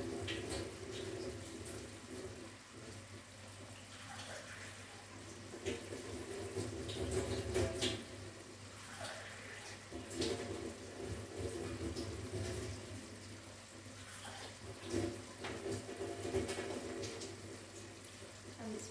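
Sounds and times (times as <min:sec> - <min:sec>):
syrup boiling with small pops: 0:00.0 - 0:18.6.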